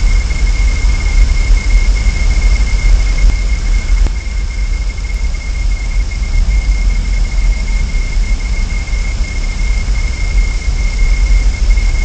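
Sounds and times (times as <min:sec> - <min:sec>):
high-pitched electronic whine: 0:00.0 - 0:12.0.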